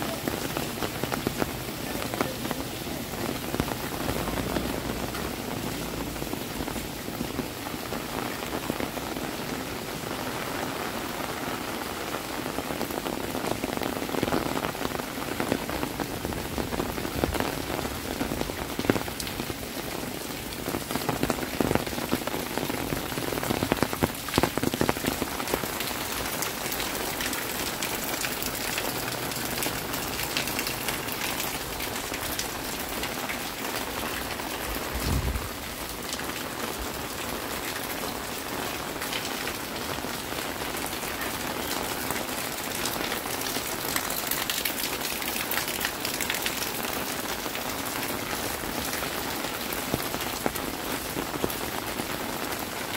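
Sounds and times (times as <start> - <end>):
rain on hard surfaces: 0.0 - 52.9.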